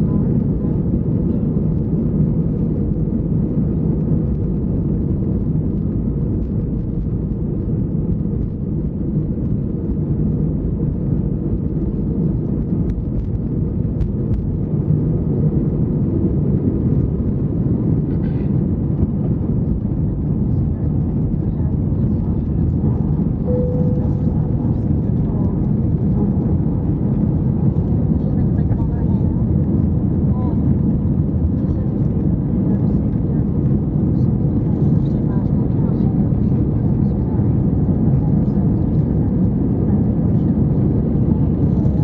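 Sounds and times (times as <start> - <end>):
jet engines at takeoff power: 0.0 - 42.0
runway rumble: 0.0 - 42.0.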